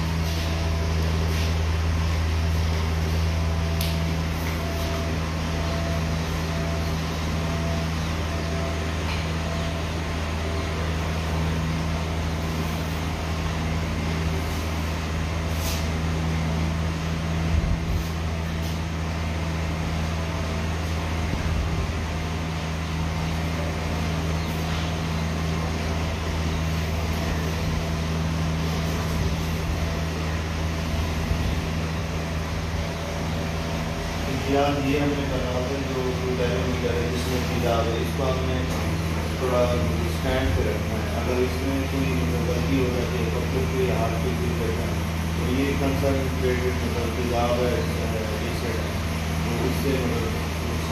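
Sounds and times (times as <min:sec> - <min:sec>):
low machine hum: 0:00.0 - 0:50.9.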